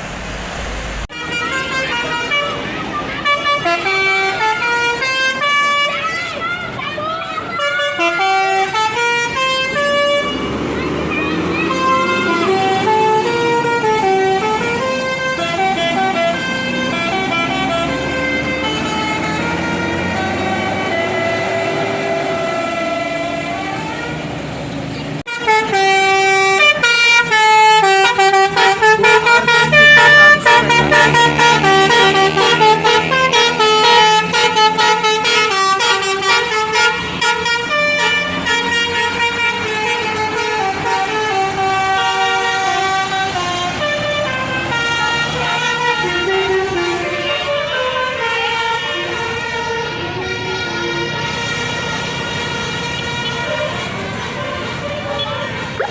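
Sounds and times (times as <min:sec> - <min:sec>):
bus engines running: 0:00.0 - 0:55.9
multi-tone bus horns playing tunes: 0:00.5 - 0:24.5, 0:25.2 - 0:55.9.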